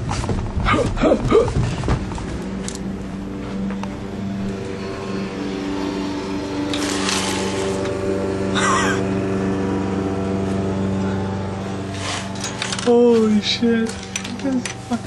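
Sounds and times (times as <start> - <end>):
lawn mower engine running: 1.7 - 15.0.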